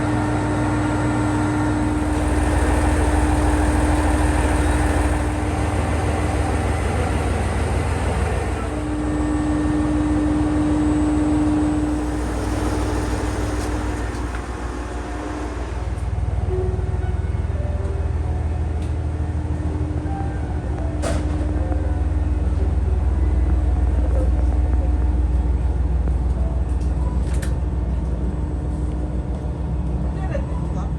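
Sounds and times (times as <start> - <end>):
diesel railcar droning: 0.0 - 30.9.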